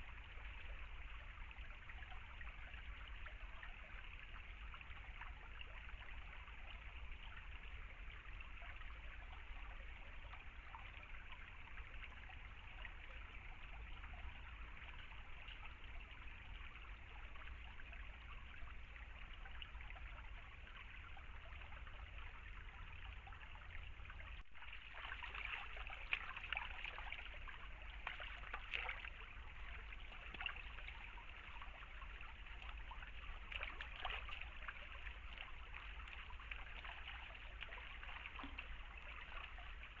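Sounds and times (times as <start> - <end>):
stream trickling over stones: 0.0 - 40.0.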